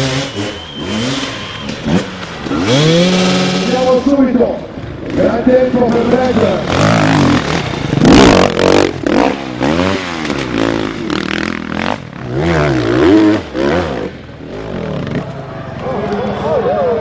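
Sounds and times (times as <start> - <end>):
dirt bike engine revving: 0.0 - 15.3.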